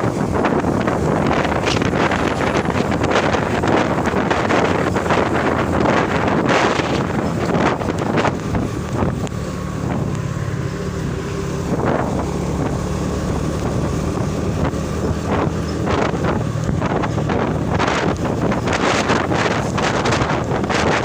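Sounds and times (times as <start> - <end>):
truck engine running: 0.0 - 21.0
wind gusting on microphone: 0.0 - 21.0.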